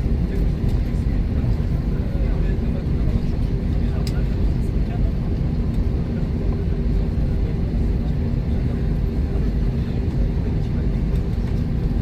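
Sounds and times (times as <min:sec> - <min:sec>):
jet engines idling rumble: 0:00.0 - 0:12.0.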